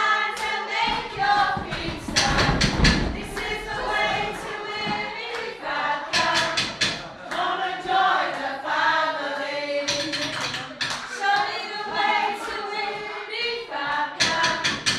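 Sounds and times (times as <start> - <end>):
choir of women singing: 0.0 - 14.9.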